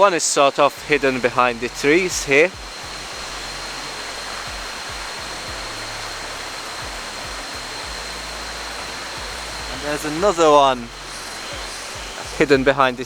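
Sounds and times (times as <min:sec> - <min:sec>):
thin steady high tone: 0:00.0 - 0:13.0
waterfall rushing: 0:00.0 - 0:13.0.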